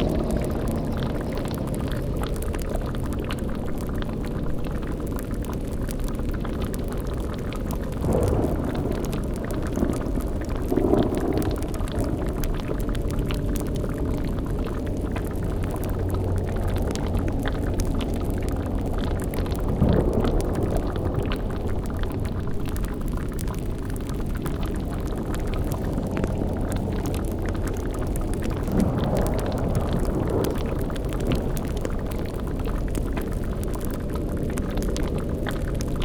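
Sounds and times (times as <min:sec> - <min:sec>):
bubbling like a cauldron: 0:00.0 - 0:36.0
faint crackles: 0:00.0 - 0:36.0
low rumble: 0:00.0 - 0:36.0.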